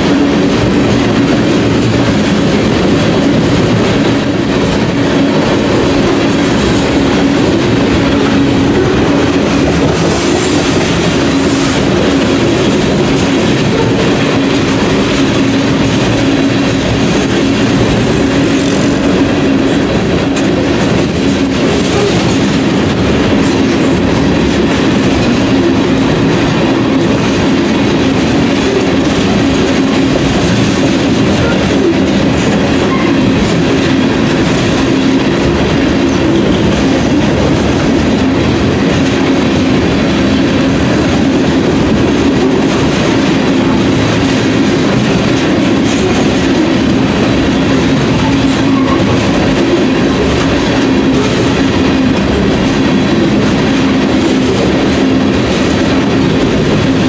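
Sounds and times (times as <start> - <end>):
steel wheels rolling on rails: 0.0 - 57.0.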